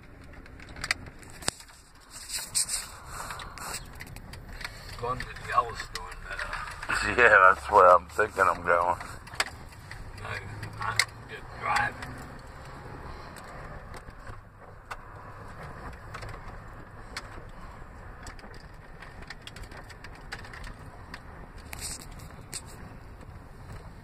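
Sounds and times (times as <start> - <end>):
car engine and road rumble: 0.0 - 24.0
light clicks and rattles: 0.0 - 24.0.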